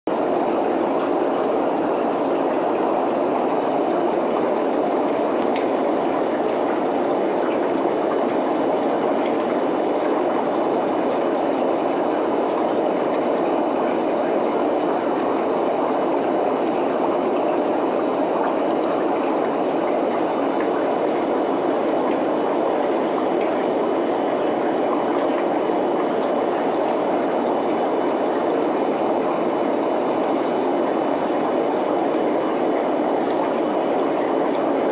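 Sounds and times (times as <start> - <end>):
aquarium water bubbling: 0.1 - 34.9.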